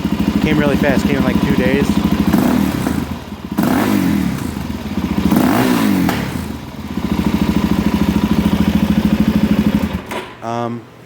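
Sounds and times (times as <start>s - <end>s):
motorcycle engine idling and revving: 0.0s - 10.1s.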